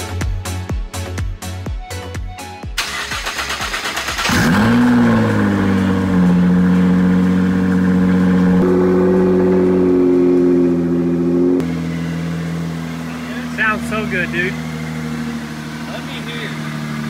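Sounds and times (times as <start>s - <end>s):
car engine at raised revs: 3.0s - 17.0s.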